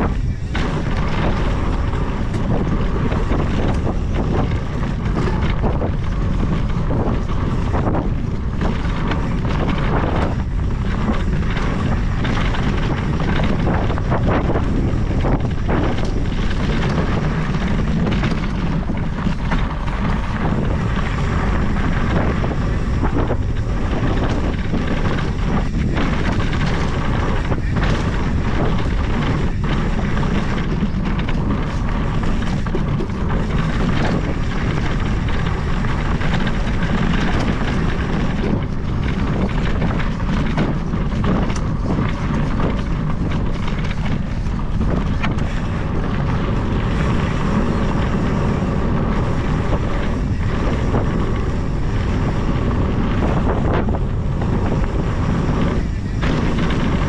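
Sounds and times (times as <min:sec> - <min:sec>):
tyre rolling over gravel trail: 0:00.0 - 0:57.0
wind buffeting microphone: 0:00.0 - 0:57.0.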